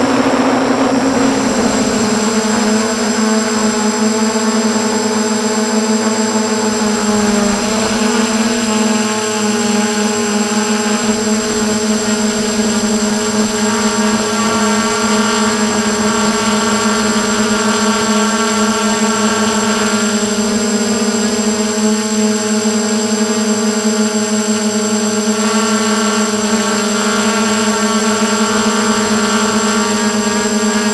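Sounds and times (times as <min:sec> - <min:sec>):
drone propellers whining: 0:00.0 - 0:30.9.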